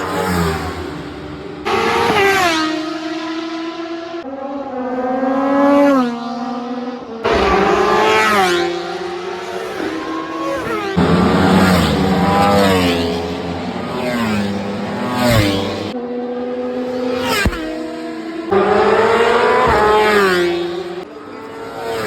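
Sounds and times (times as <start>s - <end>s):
motorbikes passing at speed: 0.0s - 22.0s.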